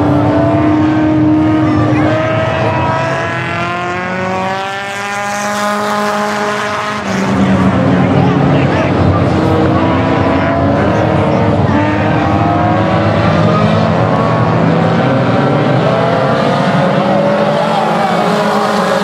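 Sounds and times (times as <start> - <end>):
stock car engines accelerating: 0.0 - 19.0.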